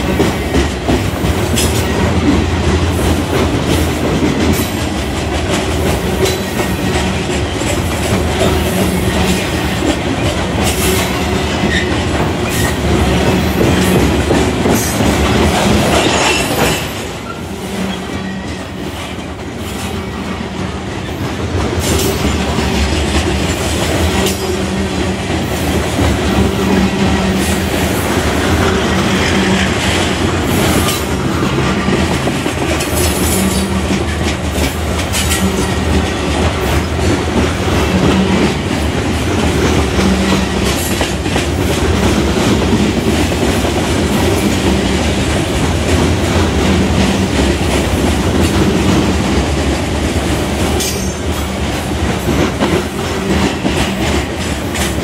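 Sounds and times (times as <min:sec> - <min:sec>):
train wheels rumbling on rail: 0:00.0 - 0:55.0
wheels clicking over rail joints: 0:00.0 - 0:55.0.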